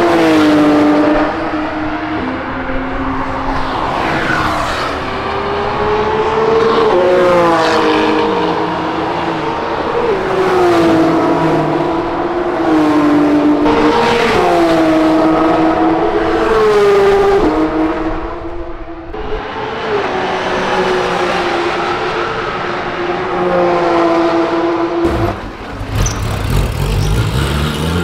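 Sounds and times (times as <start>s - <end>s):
sports car engines accelerating: 0.0s - 28.0s.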